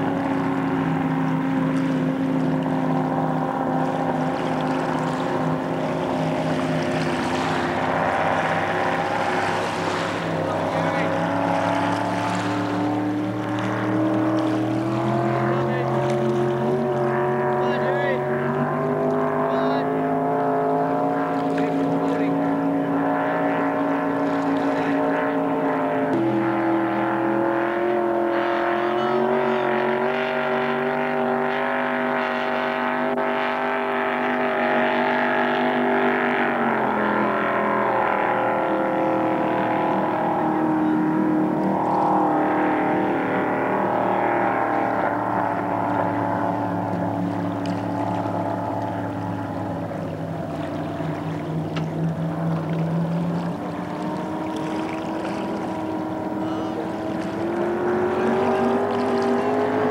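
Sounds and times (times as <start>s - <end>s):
motorboat engine at speed: 0.0s - 59.9s.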